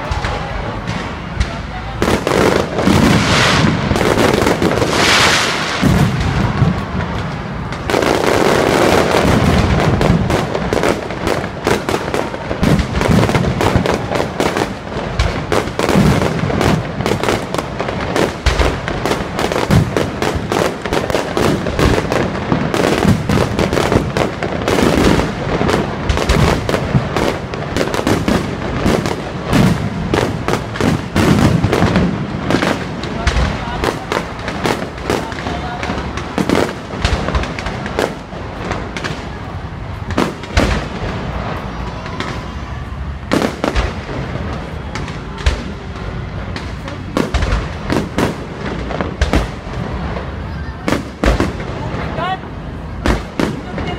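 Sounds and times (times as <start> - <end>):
fireworks booming: 0.0 - 53.9
fireworks crackling: 0.0 - 53.9.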